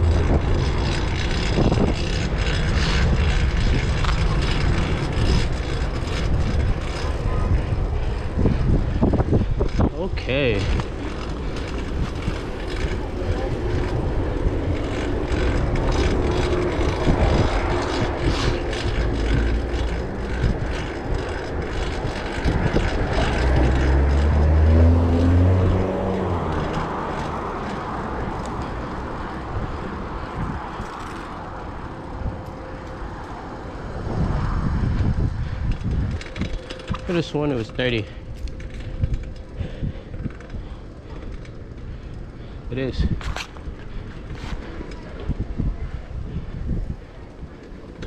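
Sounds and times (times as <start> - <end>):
vehicle engine hum: 0.0 - 48.0
wind and road noise: 0.0 - 48.0.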